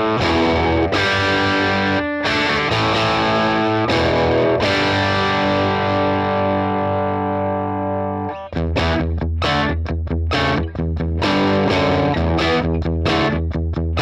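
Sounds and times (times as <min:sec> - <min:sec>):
overdriven electric guitar chords: 0:00.0 - 0:14.0.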